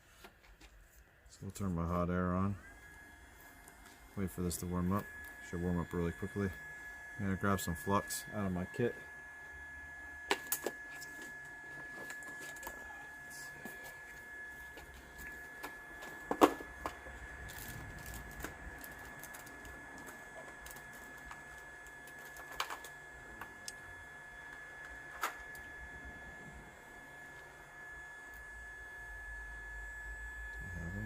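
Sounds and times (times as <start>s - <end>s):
hot air gun whine: 1.4s - 31.0s.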